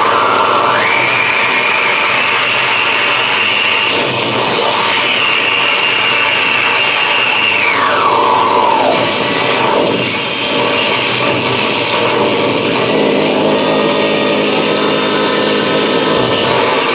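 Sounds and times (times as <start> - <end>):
harsh electronic noise wall: 0.0 - 16.9
whining electronic tone: 0.0 - 16.9.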